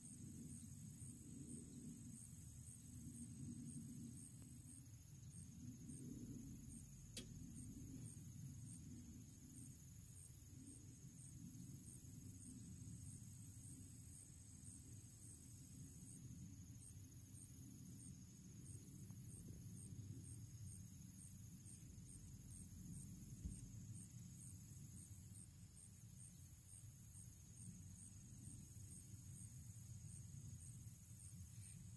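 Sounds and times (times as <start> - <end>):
insect chorus chirping: 0.0 - 31.9.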